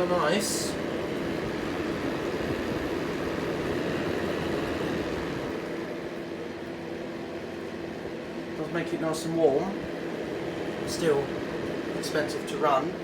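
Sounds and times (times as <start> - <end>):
constant low hum: 0.0 - 13.0
fan heater air rushing: 0.0 - 13.0.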